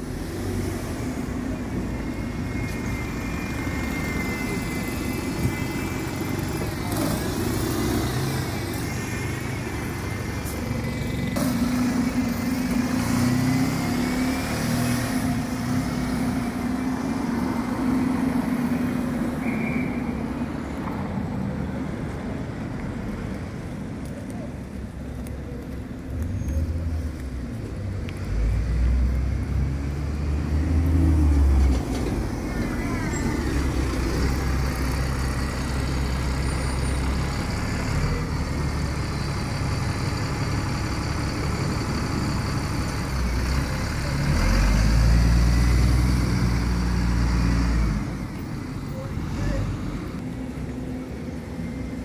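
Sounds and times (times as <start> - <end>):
bus diesel engine pulling away: 0.0 - 52.0
street traffic: 0.0 - 52.0.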